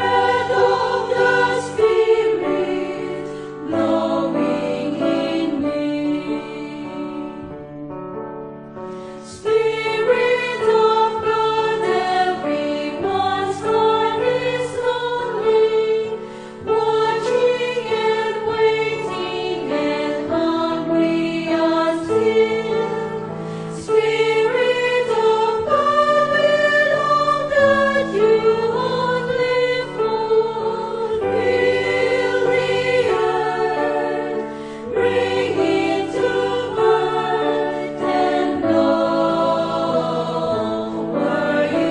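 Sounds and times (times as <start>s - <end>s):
choir singing a hymn: 0.0s - 7.6s, 9.0s - 41.9s.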